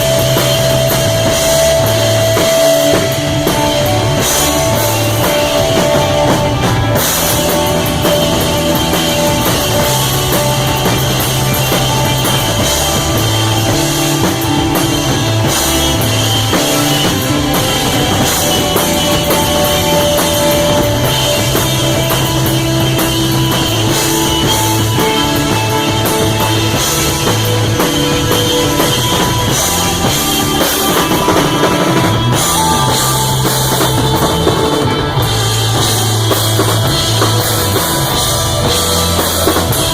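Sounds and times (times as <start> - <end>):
bass line: 0.0 - 39.9
drum kit with cymbals: 0.0 - 39.9
electric guitar: 0.0 - 39.9.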